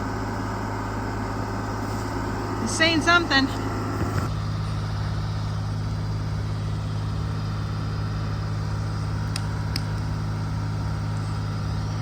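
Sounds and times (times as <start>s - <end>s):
excavator engine idling: 0.0s - 12.0s.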